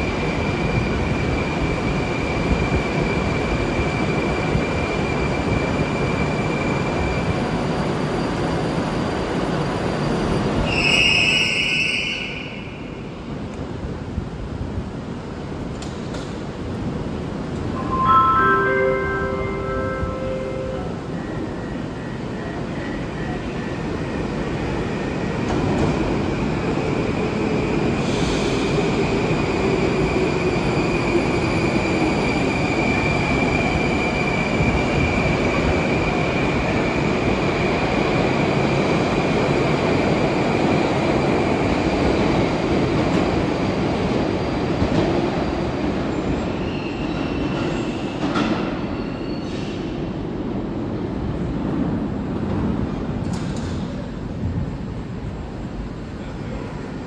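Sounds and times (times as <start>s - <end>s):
metro train running: 0.0s - 57.0s.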